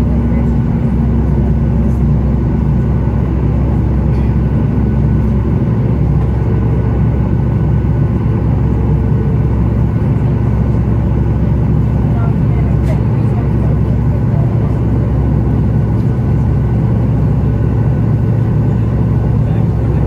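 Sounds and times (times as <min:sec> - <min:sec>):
airplane cabin rumble and hum: 0:00.0 - 0:20.0.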